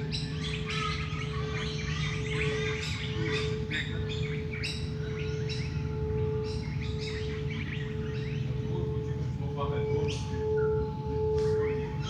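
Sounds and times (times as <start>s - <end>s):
birds chirping and trilling: 0.0s - 12.0s
singing bowl hum: 0.0s - 12.0s.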